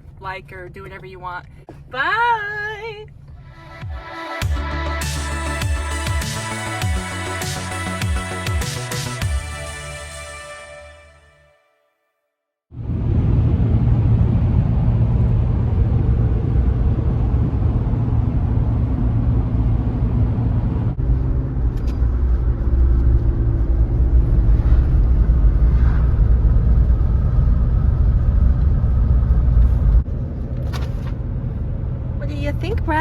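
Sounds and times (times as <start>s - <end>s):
car road and engine rumble: 0.0s - 10.1s, 12.7s - 33.0s.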